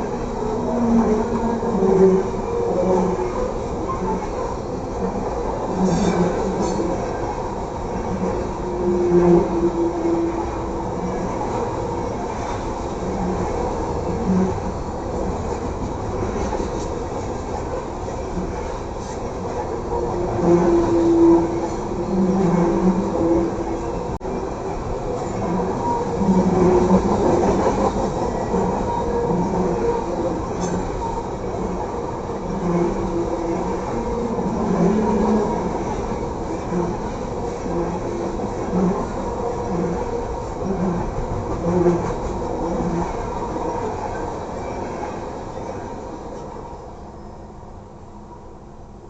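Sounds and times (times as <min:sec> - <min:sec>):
train cars rolling on rails: 0:00.0 - 0:47.6.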